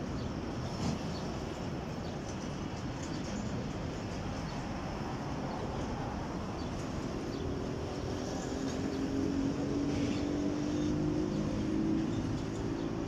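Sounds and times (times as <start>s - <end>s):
noisy yard background: 0.0s - 13.0s.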